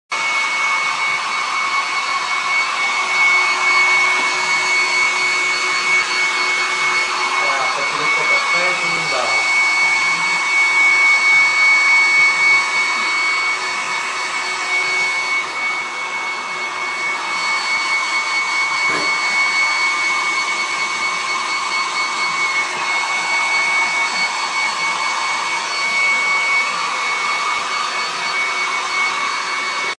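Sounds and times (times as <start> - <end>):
hair dryer running: 0.1 - 30.0.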